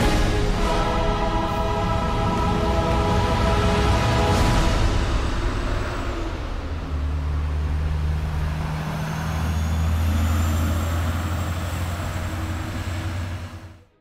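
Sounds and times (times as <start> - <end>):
vehicle driving past: 0.0 - 13.9.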